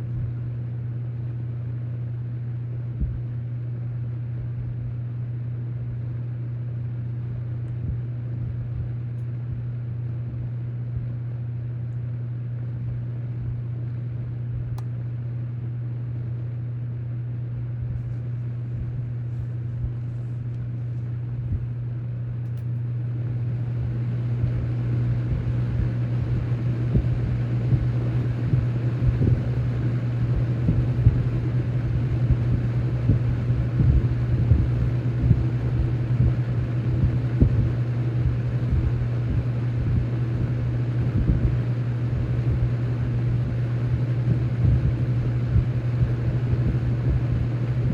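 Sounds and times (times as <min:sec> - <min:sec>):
box fan running: 0:00.0 - 0:47.9
low motor hum: 0:00.0 - 0:47.9.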